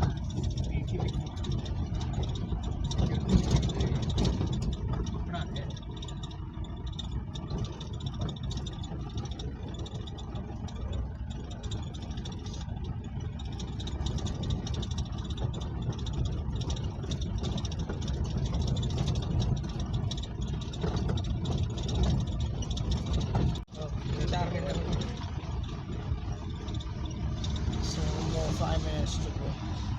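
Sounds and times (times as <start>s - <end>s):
car engine running while driving: 0.0s - 29.9s.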